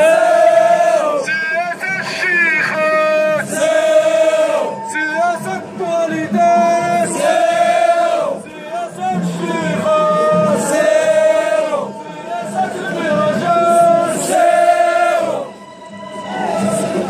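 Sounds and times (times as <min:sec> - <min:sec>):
crowd of men chanting: 0:00.0 - 0:01.3, 0:02.7 - 0:15.5.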